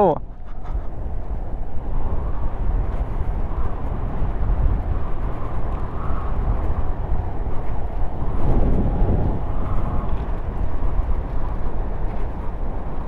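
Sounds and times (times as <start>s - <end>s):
wind rushing over microphone: 0.0s - 13.0s
tyres rolling on asphalt: 0.4s - 13.0s.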